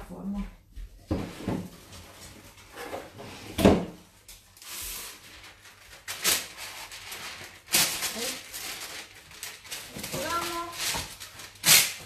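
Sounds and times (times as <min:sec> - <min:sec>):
baking paper rustling: 0:01.1 - 0:12.0.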